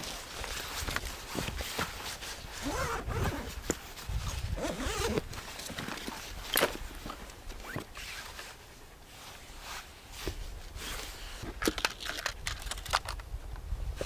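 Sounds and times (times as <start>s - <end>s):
rustling with clicks and crunches: 0.0s - 14.0s.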